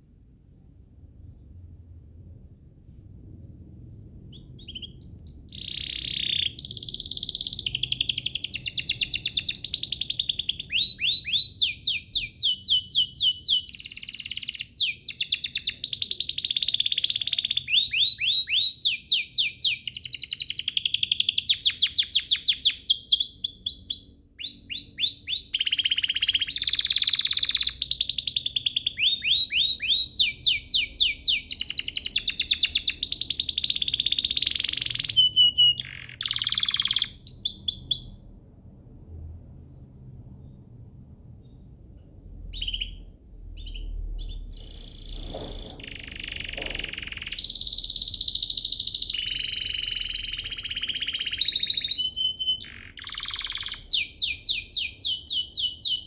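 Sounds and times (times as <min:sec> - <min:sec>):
canary singing rapid trills: 0:03.4 - 0:38.2, 0:42.5 - 0:45.2, 0:45.8 - 0:56.0.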